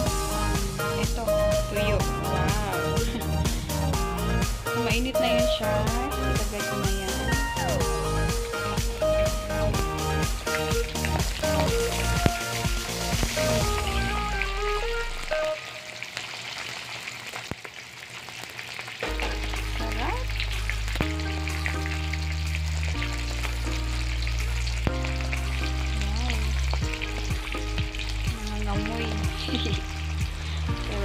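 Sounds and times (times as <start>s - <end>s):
music with held bass notes: 0.0s - 15.6s, 19.0s - 31.0s
fish sizzling in hot oil: 0.0s - 31.0s.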